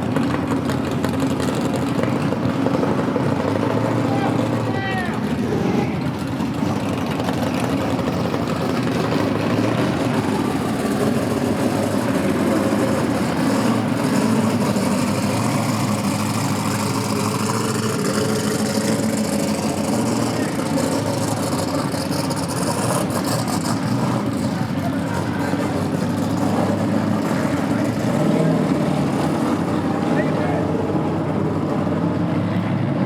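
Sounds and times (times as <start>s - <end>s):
car engines idling: 0.0s - 33.0s.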